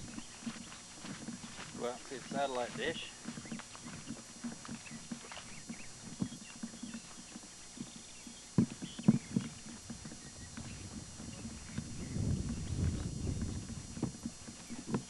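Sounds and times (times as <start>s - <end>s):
footsteps outdoors: 0.0s - 15.0s.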